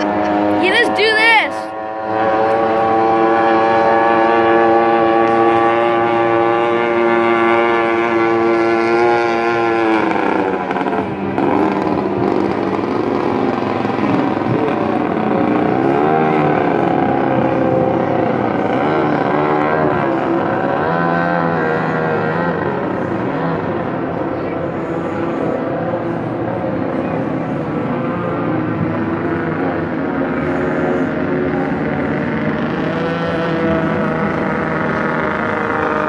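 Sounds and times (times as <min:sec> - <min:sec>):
powerboat engines running hard: 0:00.0 - 0:36.0.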